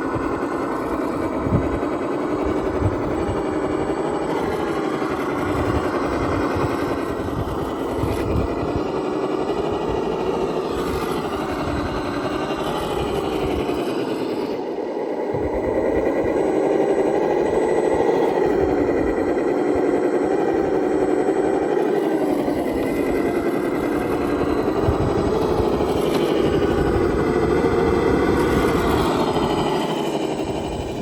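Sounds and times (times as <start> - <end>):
toy car electric motor whining: 0.0 - 31.0.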